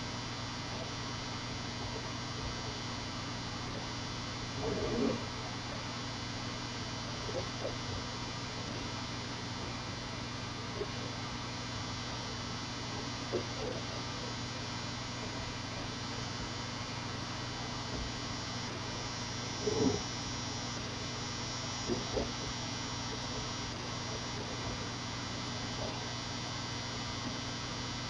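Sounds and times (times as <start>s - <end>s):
electrical hum and hiss: 0.0s - 28.0s.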